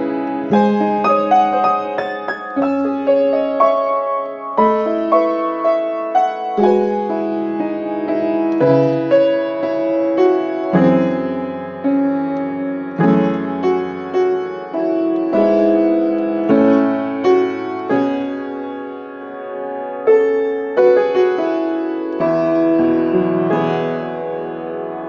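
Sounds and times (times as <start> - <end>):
soft solo piano: 0.0 - 25.0.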